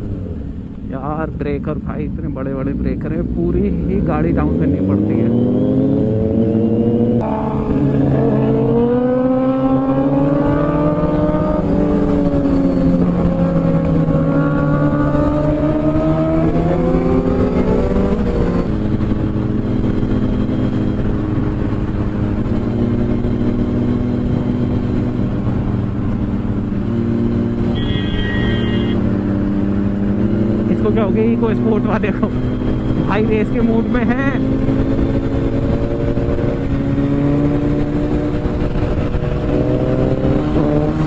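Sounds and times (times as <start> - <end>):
motorcycle engine: 2.6 - 41.0.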